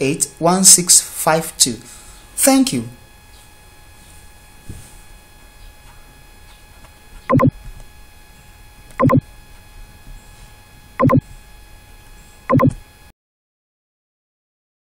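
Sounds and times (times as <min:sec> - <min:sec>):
faint electrical hum: 0:00.0 - 0:13.1.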